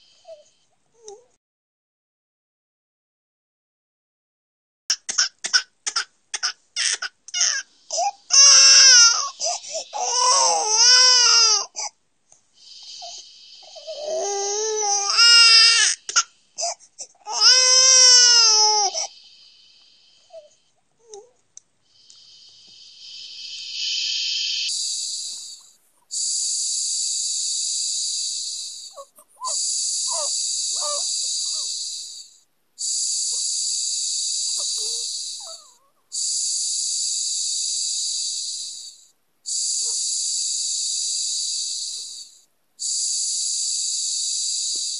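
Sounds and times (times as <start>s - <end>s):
shushing hiss from sound machine: 0.0s - 0.6s, 5.0s - 20.8s, 21.8s - 44.9s.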